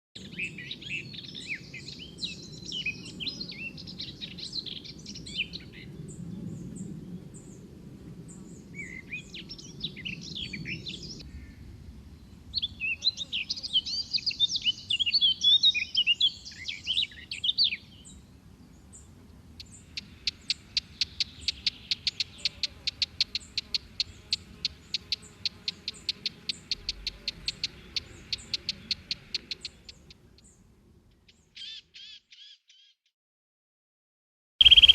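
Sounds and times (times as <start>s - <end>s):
songbirds chirping: 0.2s - 33.0s, 34.6s - 34.9s.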